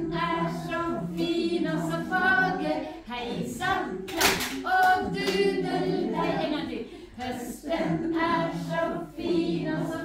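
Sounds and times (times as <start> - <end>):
group singing a cappella: 0.0 - 10.0.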